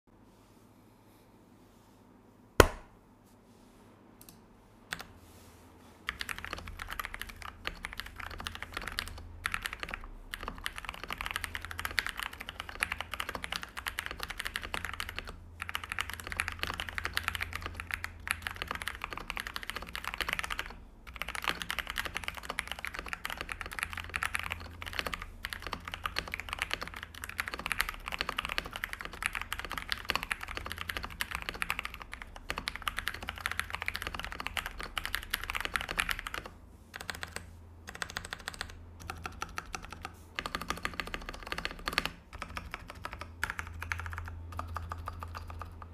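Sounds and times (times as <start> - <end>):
fast typing on mechanical keyboard: 6.1 - 45.9.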